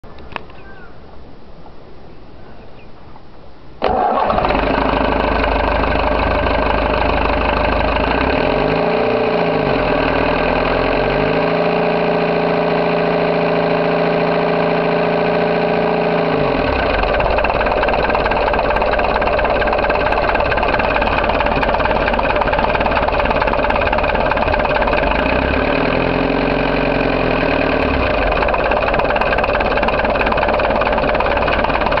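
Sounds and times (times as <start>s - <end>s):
boat engine running: 3.8s - 32.0s.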